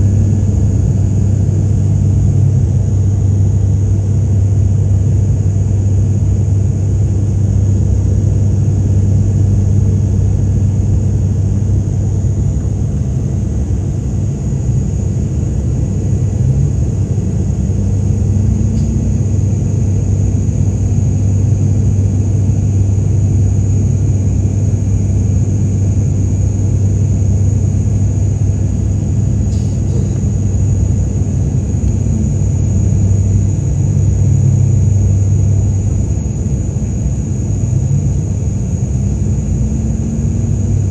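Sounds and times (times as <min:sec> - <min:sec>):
aircraft engines droning in cabin: 0:00.0 - 0:40.9
high engine whine: 0:00.0 - 0:40.9.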